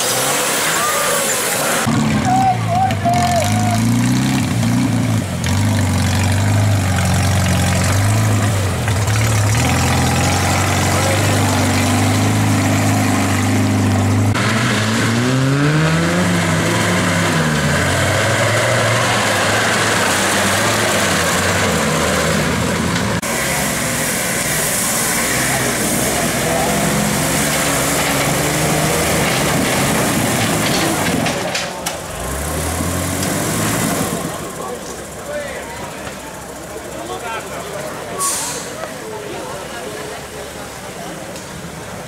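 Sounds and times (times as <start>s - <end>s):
tractor engine revving: 0.0s - 38.7s.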